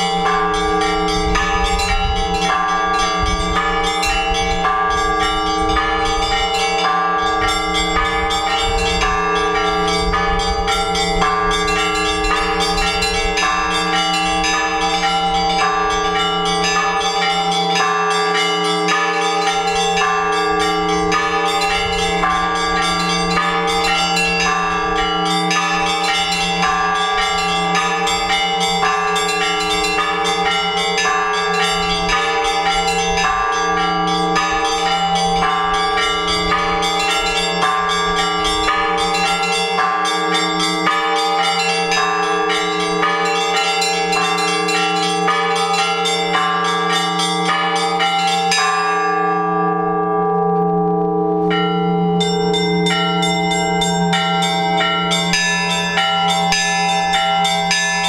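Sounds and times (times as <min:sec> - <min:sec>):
small bells rapid rhythm: 0:00.0 - 0:49.4, 0:51.5 - 0:58.0
deep hum of large bells: 0:00.0 - 0:58.0.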